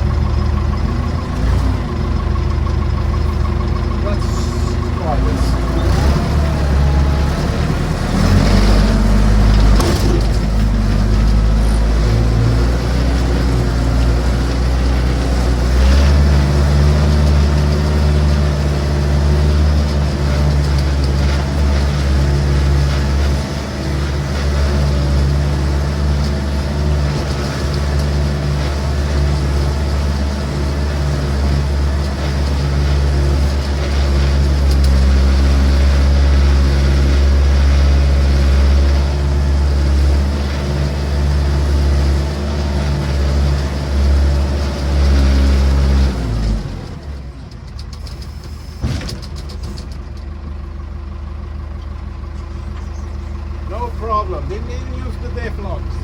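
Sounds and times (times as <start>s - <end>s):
backhoe engine working under load: 0.0s - 56.0s.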